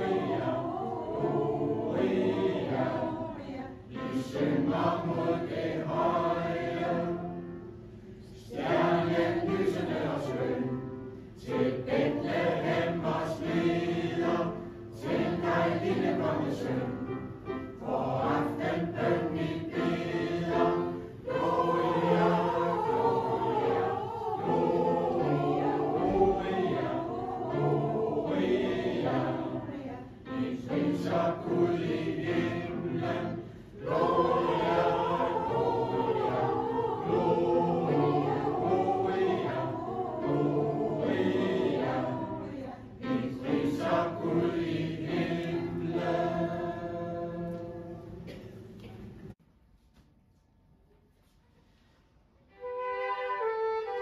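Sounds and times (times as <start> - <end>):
mixed choir singing in harmony: 0.0 - 48.6.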